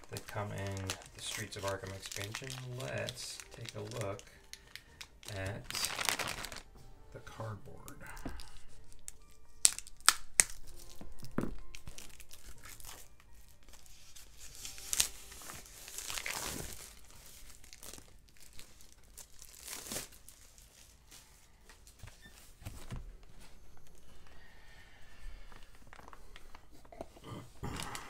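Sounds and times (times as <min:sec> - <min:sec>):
plastic wrap crinkling and tearing: 0:00.0 - 0:06.8, 0:08.0 - 0:22.9, 0:25.4 - 0:28.0.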